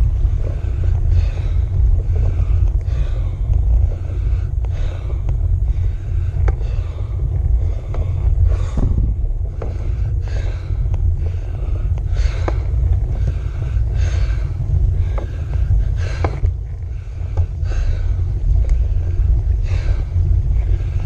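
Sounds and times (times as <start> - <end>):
cyclist breathing hard: 0.0 - 21.0
wind buffeting microphone: 0.0 - 21.0.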